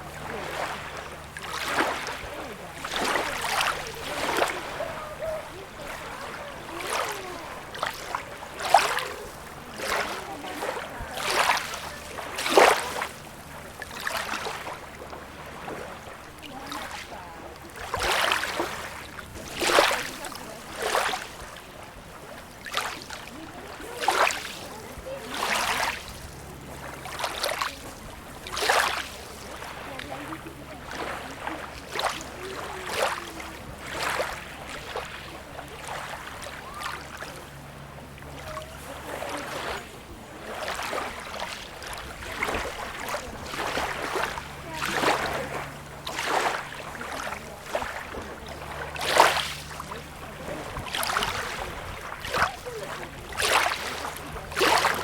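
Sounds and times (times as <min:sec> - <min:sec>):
small waves lapping at shore: 0:00.0 - 0:55.0.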